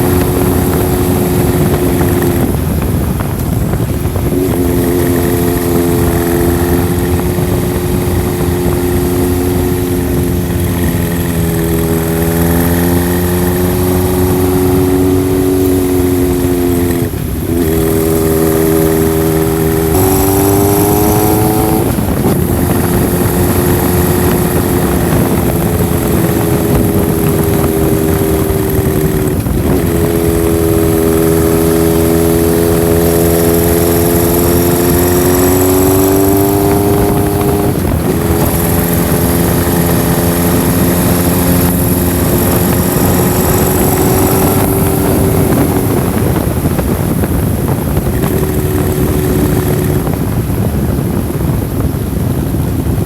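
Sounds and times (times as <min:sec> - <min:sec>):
motorcycle engine and exhaust: 0:00.0 - 0:53.0.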